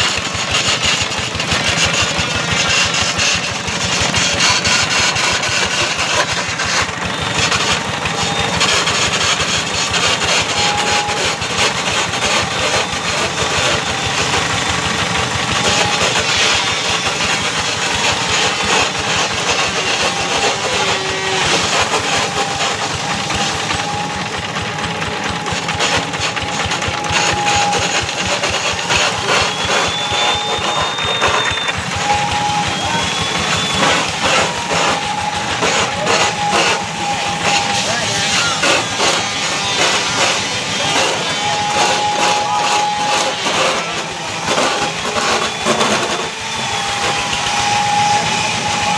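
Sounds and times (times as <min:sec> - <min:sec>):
wood lathe running: 0:00.0 - 0:48.9.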